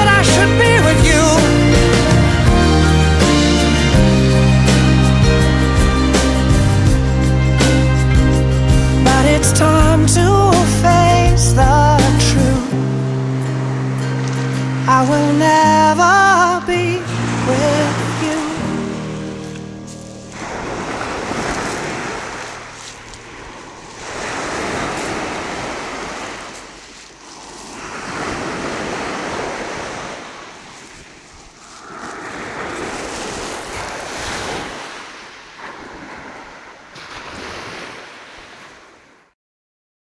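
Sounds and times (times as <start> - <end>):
sea waves washing ashore: 0.0 - 39.4.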